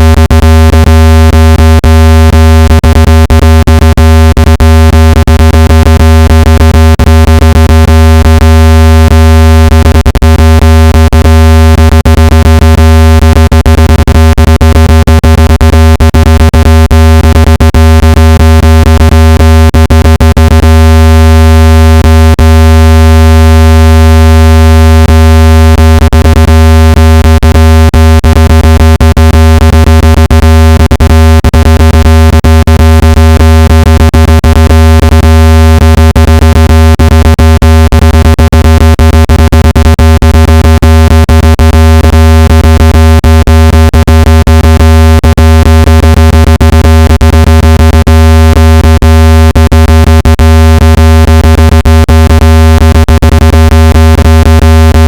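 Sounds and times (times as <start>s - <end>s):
loud low buzzing test tone: 0.0s - 55.0s.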